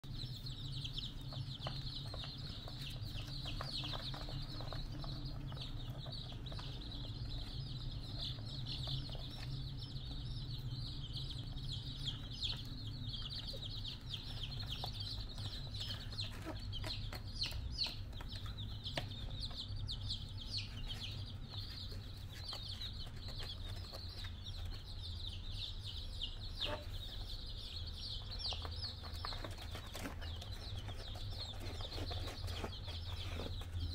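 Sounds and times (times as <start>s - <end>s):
baby chicks peeping: 0.0s - 33.9s
steady low hum: 0.0s - 33.9s.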